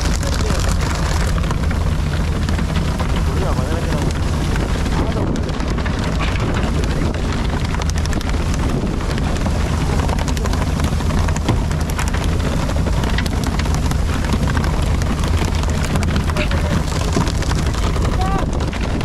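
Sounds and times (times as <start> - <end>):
boat engine running: 0.0 - 19.0
wind buffeting microphone: 0.0 - 19.0.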